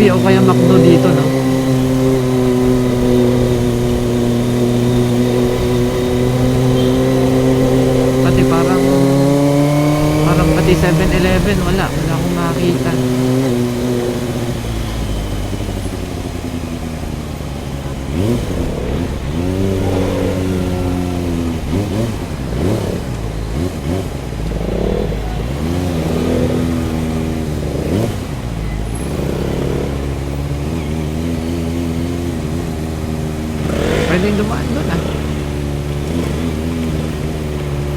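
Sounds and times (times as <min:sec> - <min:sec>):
motorcycle engines revving: 0:00.0 - 0:37.9.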